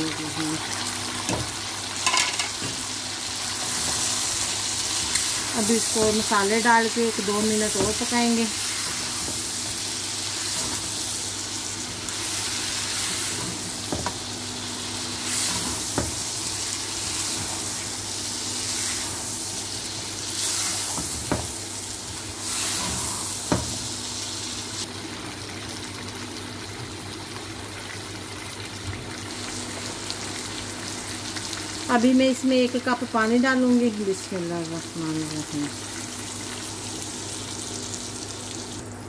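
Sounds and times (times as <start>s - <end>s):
chicken sizzling in a frying pan: 0.0s - 39.0s.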